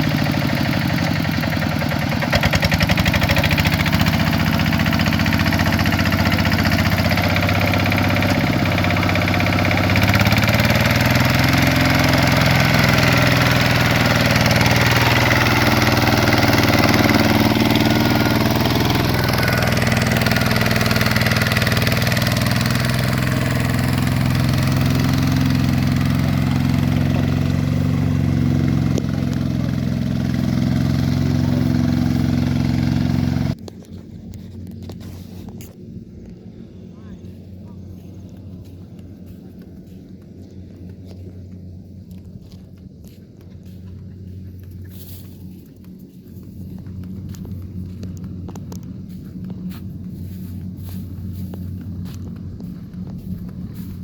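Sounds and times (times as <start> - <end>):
truck engine running: 0.0 - 35.1, 37.0 - 54.0.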